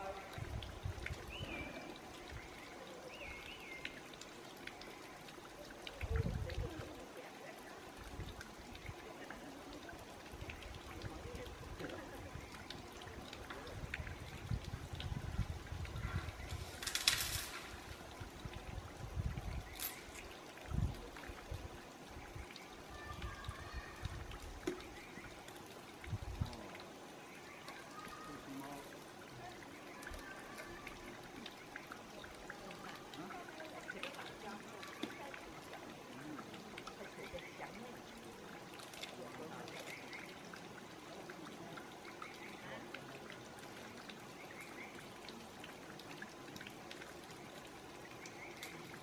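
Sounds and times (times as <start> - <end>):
steady trickling hiss: 0.0 - 49.0.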